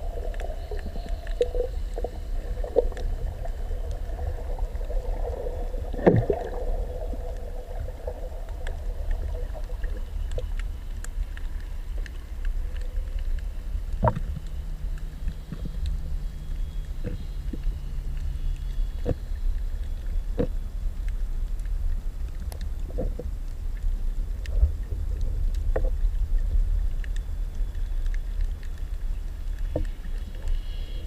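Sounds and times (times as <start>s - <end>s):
underwater rumble of water: 0.0s - 31.0s.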